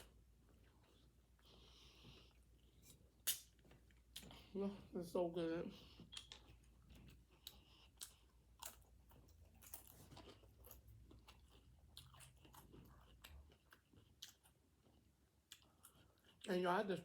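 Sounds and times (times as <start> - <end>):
person chewing food: 0.0 - 4.6, 5.7 - 16.5.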